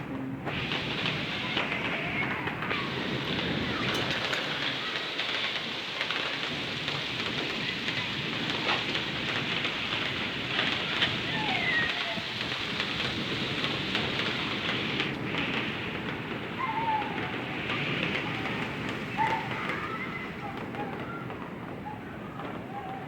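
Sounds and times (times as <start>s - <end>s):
steady rain pattering: 0.0s - 23.0s.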